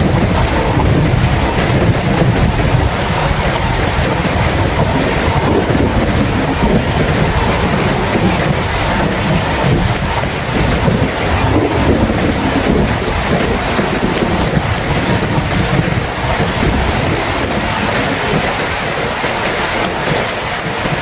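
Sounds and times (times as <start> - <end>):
heavy rain: 0.0 - 21.0
low thunder rumble: 0.0 - 21.0.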